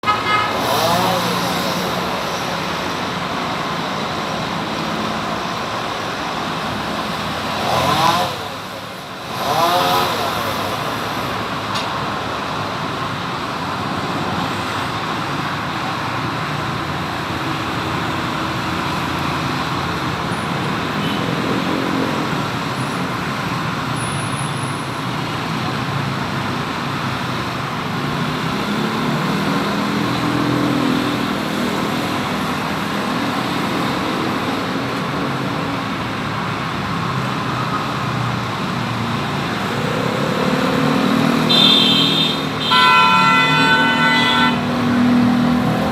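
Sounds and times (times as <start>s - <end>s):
passing vehicle engines: 0.0s - 45.9s
road traffic noise: 0.0s - 45.9s.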